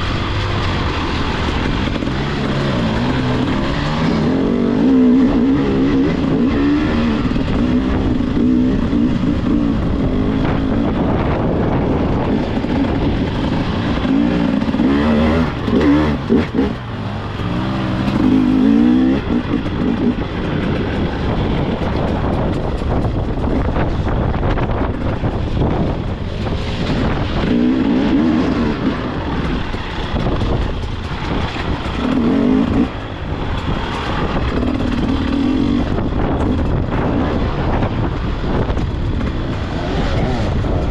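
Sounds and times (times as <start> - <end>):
dirt bike engine revving: 0.0 - 22.8, 24.8 - 40.9.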